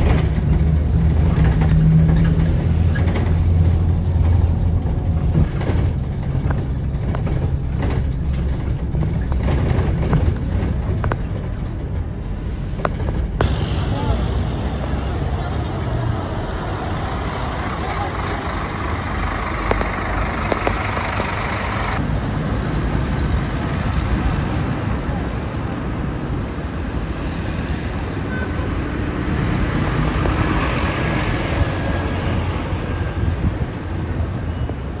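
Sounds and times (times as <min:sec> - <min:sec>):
bus engine rumble: 0:00.0 - 0:35.0
passing cars: 0:00.0 - 0:35.0.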